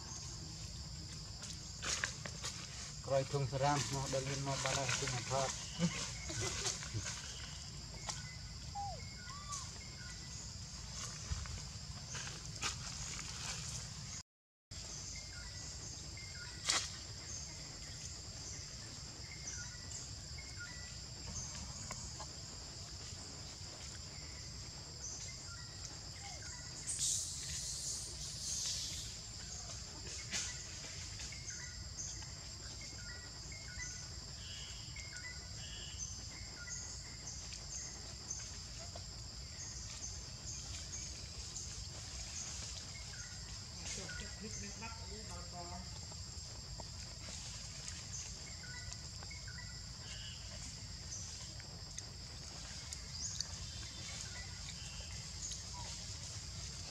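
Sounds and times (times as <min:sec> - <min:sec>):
rustle: 0:00.0 - 0:14.2, 0:14.8 - 0:56.9.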